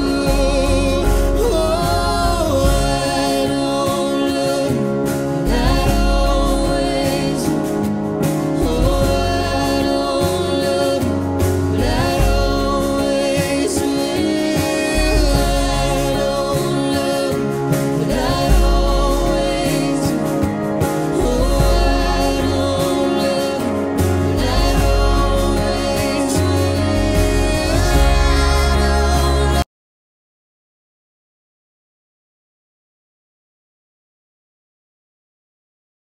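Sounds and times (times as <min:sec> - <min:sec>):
instrumental backing with deep bass: 0:00.0 - 0:29.6.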